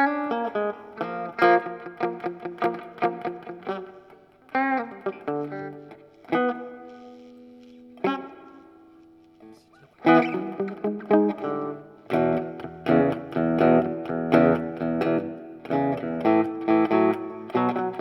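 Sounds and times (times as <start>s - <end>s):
clean electric guitar chords: 0.0s - 9.4s, 10.0s - 18.0s.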